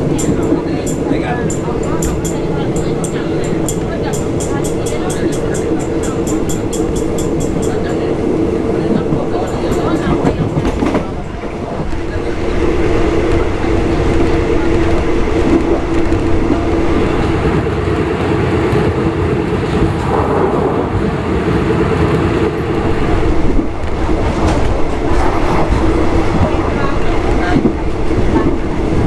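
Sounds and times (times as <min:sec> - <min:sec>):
constant drone: 0:00.0 - 0:29.0
train wheels rumbling: 0:00.0 - 0:29.0.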